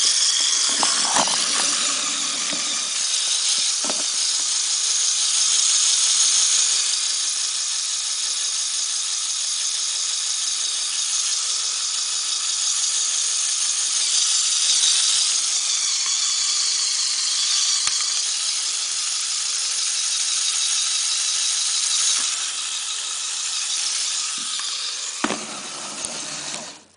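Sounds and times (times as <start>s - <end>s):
small electric motor and gears whirring: 0.0s - 26.9s.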